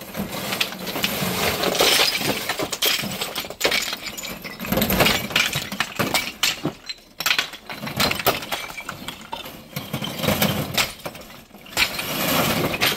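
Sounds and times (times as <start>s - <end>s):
stone pieces clattering: 0.2s - 12.9s.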